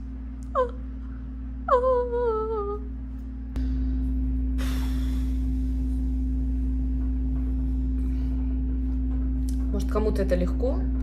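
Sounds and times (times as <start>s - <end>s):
steady humming tone: 0.0s - 11.0s.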